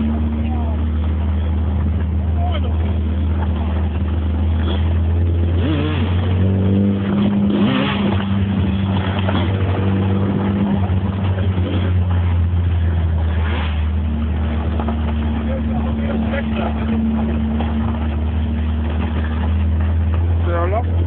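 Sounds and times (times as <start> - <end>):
car engine deep drone: 0.0 - 21.0.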